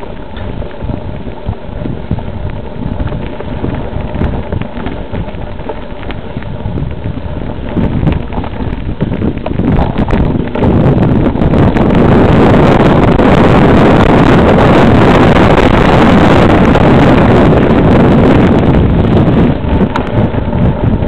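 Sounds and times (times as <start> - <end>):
bike rattling on rough trail: 0.0 - 21.0
wind buffeting microphone: 0.0 - 21.0.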